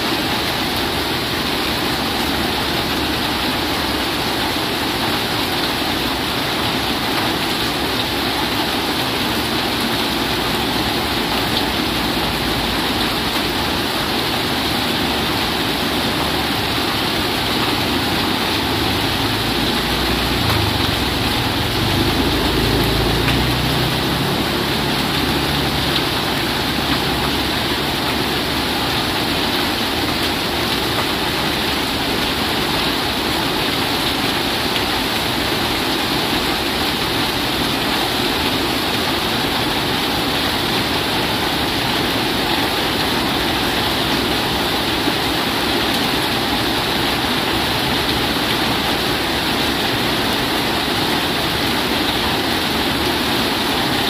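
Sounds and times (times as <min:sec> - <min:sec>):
heavy rain on a corrugated roof: 0:00.0 - 0:54.0
runoff pouring off eaves: 0:00.0 - 0:54.0.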